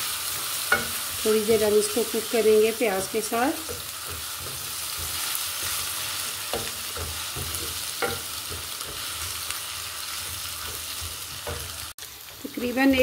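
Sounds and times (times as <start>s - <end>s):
onions sizzling in hot oil: 0.0s - 13.0s
wooden spoon scraping a pan: 0.1s - 11.9s.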